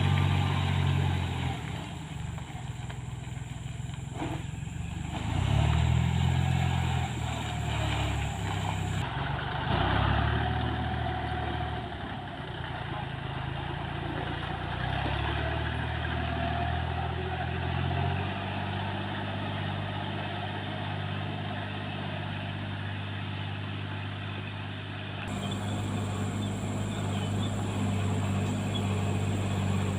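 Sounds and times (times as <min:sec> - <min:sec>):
vehicle engine revving and idling: 0:00.0 - 0:24.5, 0:25.2 - 0:29.9.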